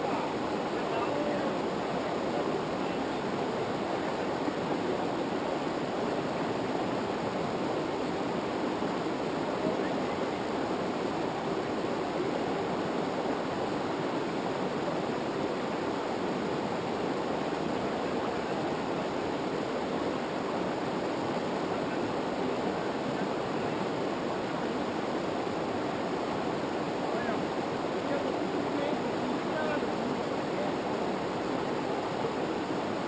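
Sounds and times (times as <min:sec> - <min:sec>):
river water rushing over rapids: 0:00.0 - 0:33.0.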